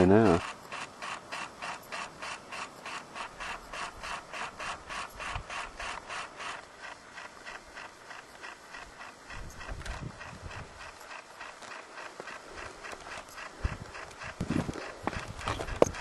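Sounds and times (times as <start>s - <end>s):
rapid mechanical clicking: 0.0s - 16.0s.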